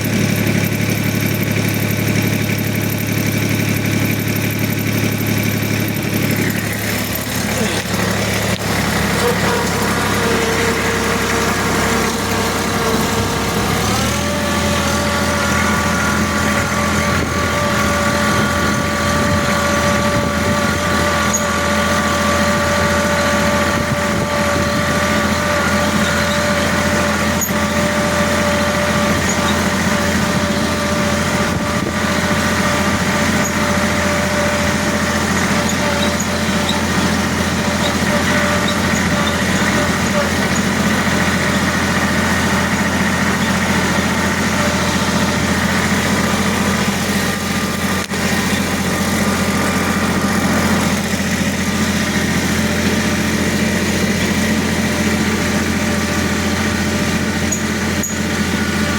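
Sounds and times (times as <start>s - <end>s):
machine whine: 0.0s - 58.9s.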